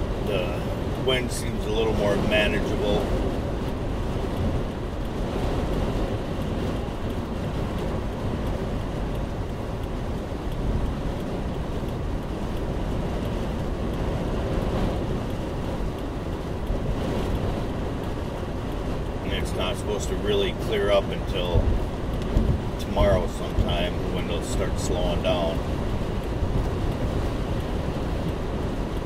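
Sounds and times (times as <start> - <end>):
gusting wind: 0.0 - 29.0
road noise inside car: 0.0 - 29.0.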